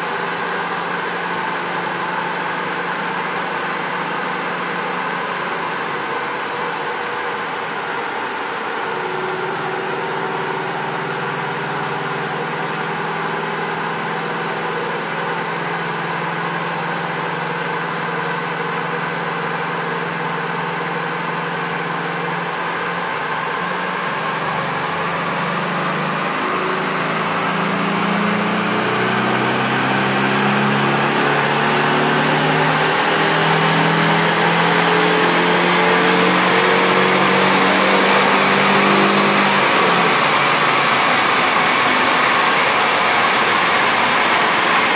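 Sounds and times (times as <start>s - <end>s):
car engine revving under load: 0.0s - 44.9s.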